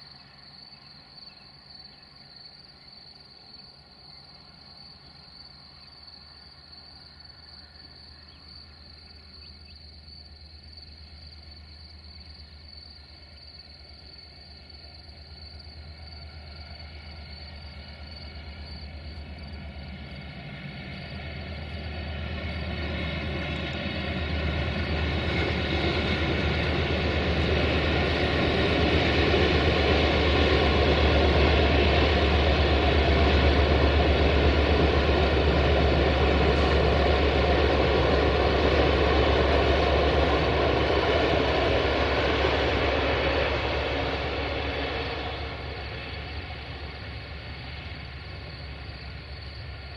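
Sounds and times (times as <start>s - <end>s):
diesel locomotive engine hum: 0.0s - 49.9s.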